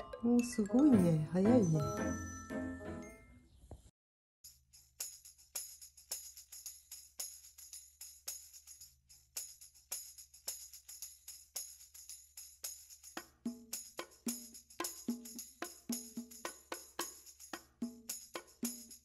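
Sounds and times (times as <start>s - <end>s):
music with jingling percussion: 0.0s - 3.4s, 4.4s - 19.0s.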